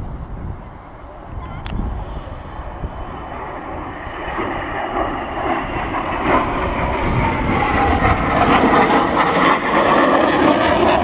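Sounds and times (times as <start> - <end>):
faint jet whine: 0.0 - 11.0
jet engine rushing: 0.0 - 11.0.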